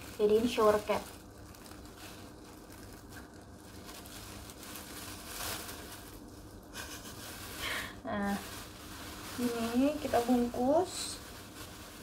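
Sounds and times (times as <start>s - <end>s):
plastic sheet crinkling: 0.0s - 12.0s.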